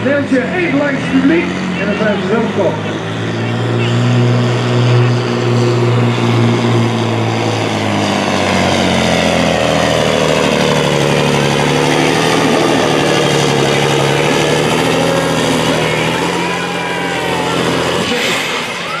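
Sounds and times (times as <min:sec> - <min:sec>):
truck diesel engine at full power: 0:00.0 - 0:19.0.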